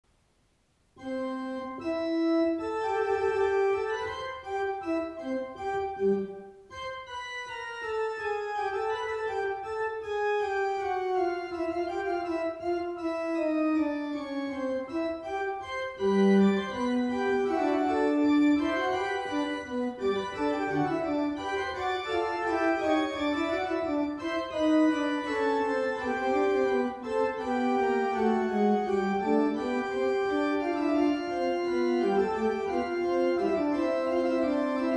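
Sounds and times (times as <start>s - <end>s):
organ playing a fugue: 1.0s - 34.9s.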